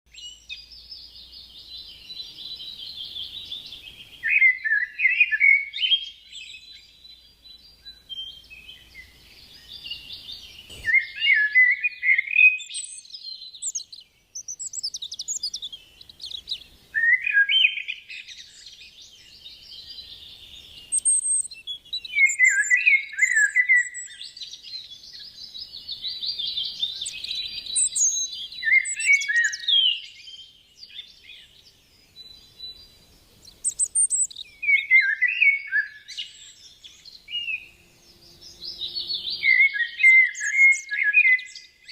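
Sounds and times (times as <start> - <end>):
birds chirping and singing: 0.1 - 41.9.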